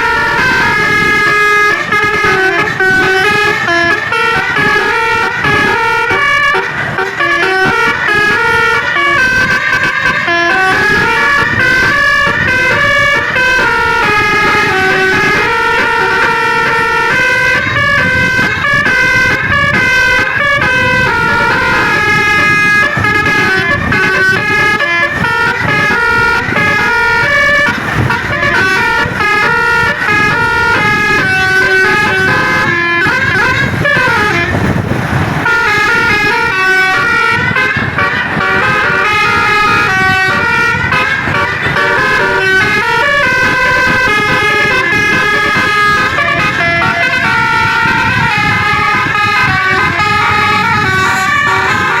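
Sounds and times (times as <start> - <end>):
bus horns playing a melody: 0.0 - 52.0
swooping siren-like horn glide: 0.0 - 52.0.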